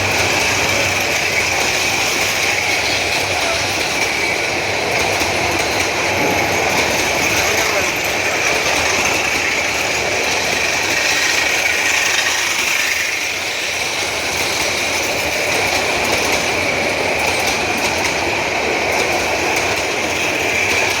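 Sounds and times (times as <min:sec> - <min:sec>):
train running on rails: 0:00.0 - 0:21.0.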